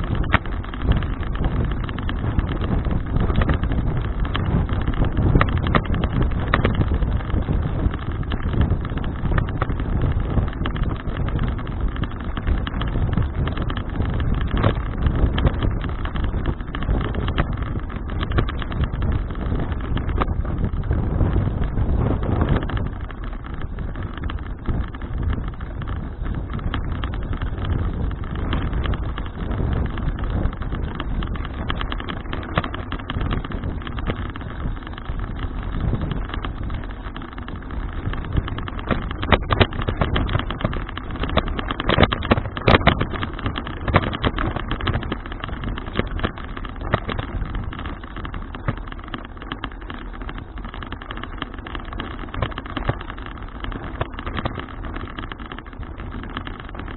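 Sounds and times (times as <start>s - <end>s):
bicycle rattling and knocking: 0.0s - 56.9s
road noise: 0.0s - 56.9s
wind on microphone: 0.0s - 56.9s.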